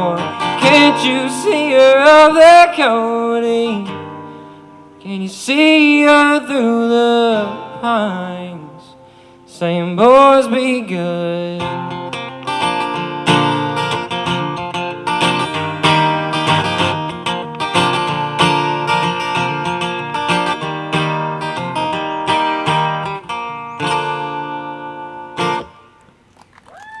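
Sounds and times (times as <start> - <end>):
acoustic guitar picking and strumming: 0.0 - 26.2.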